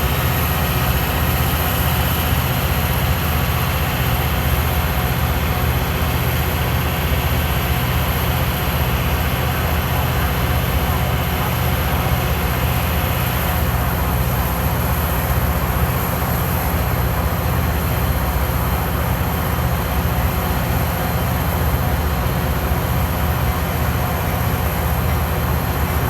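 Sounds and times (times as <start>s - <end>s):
diesel locomotive engine idling: 0.0s - 26.0s.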